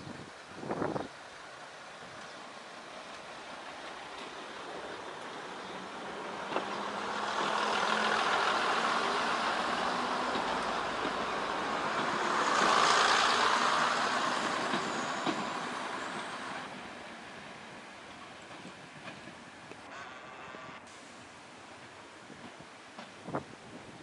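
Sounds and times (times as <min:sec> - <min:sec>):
train rushing rumble: 0:00.6 - 0:20.5.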